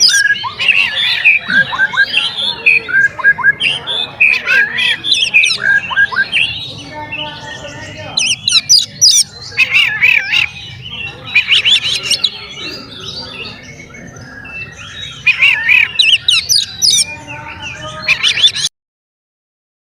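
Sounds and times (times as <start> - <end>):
bird warbling whistled song: 0.0 - 18.7.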